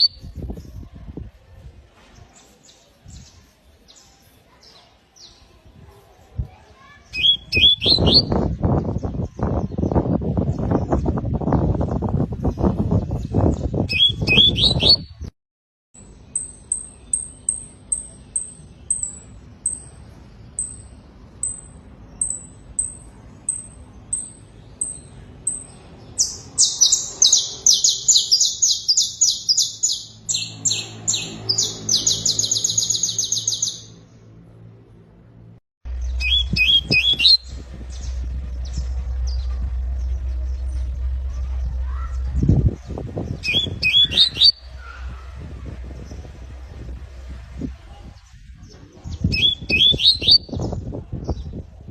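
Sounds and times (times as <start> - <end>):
canary chirping and trilling: 0.0 - 0.8, 6.8 - 15.3, 16.0 - 34.1, 35.9 - 51.5.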